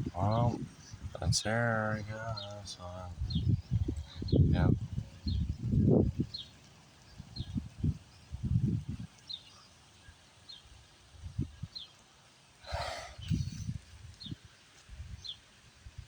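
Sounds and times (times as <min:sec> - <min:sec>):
wind buffeting microphone: 0:00.0 - 0:09.4, 0:10.5 - 0:11.9, 0:12.7 - 0:16.0.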